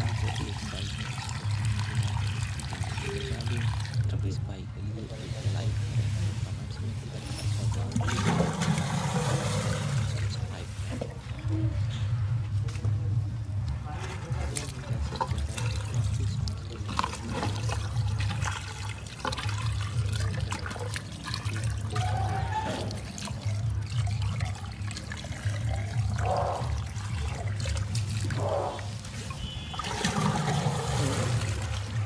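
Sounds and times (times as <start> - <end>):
steady low hum: 0.0 - 32.0
water trickling and splashing: 0.0 - 32.0.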